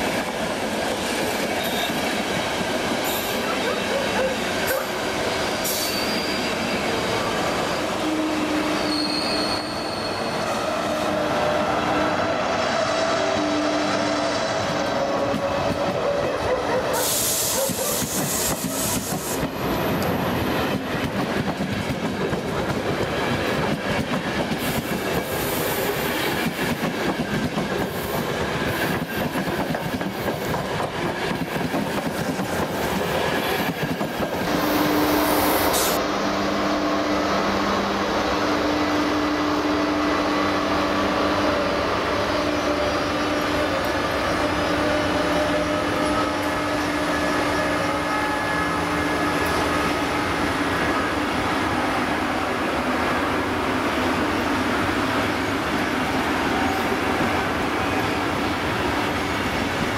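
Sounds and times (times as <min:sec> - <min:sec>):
electric train hum: 0:00.0 - 0:59.9
train passing with rumble: 0:00.0 - 0:59.9.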